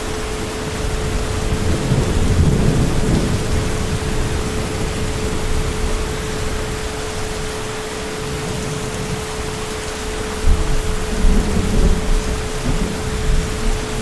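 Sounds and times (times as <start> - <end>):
heavy rain falling: 0.0 - 14.0
low thunder rumbling: 0.0 - 14.0.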